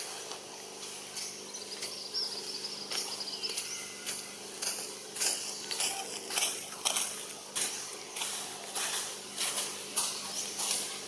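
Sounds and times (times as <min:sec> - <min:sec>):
leaves rustling: 0:00.0 - 0:11.0.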